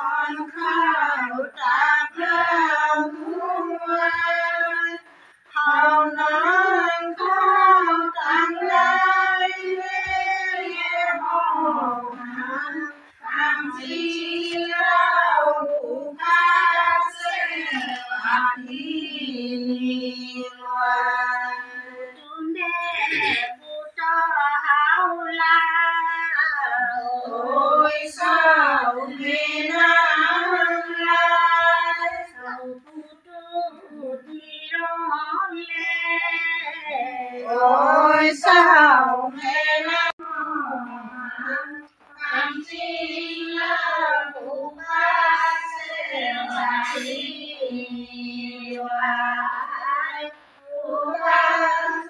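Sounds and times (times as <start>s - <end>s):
women singing together: 0.0s - 52.0s.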